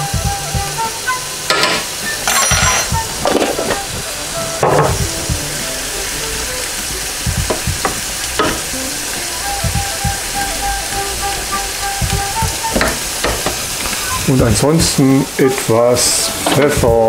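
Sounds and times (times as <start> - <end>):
cabbage sizzling in a pot: 0.0 - 17.0.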